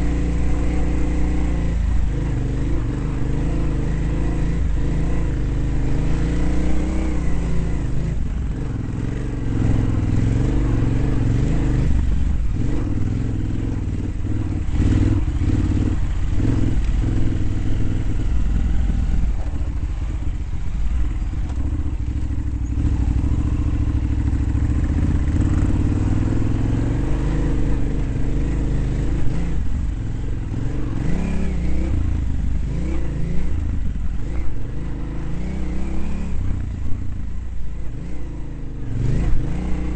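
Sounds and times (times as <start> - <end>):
dirt bike engine revving: 0.0 - 20.3, 20.9 - 37.0, 37.9 - 39.9.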